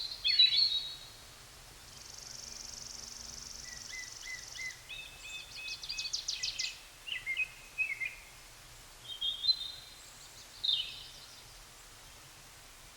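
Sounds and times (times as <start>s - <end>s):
songbirds chirping: 0.0s - 12.9s.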